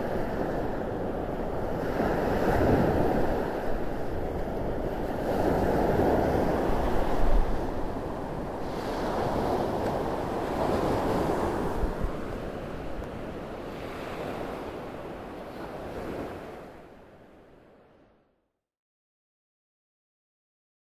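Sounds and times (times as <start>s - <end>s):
sea waves washing onto shore: 0.0s - 17.0s
wind rumble on microphone: 0.0s - 17.8s.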